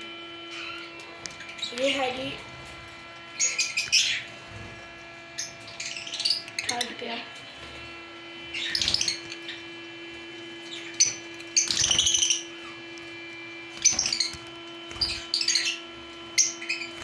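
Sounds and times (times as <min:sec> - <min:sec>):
steady hum: 0:00.0 - 0:17.0
caged birds chirping: 0:00.1 - 0:17.0.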